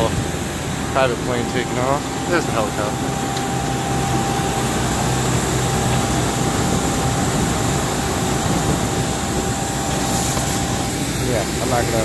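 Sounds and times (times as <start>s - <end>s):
aircraft engine rumble and whine: 0.0s - 12.0s.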